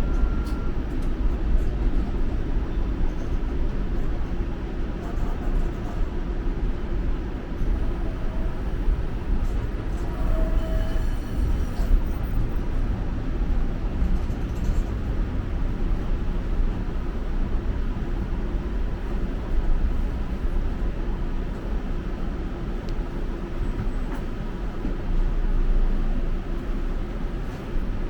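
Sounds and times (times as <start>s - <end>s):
streetcar wheels rumbling on rails: 0.0s - 28.0s.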